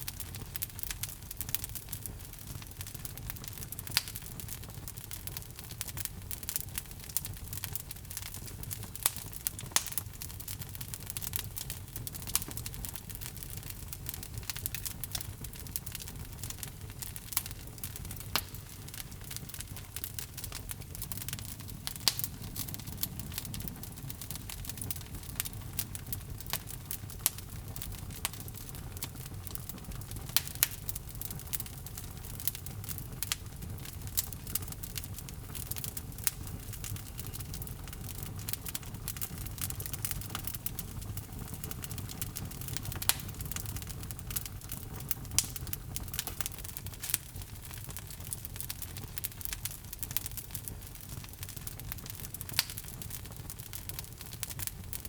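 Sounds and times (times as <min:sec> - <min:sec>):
flame rumbling: 0:00.0 - 0:55.0
logs crackling and popping: 0:00.0 - 0:55.0.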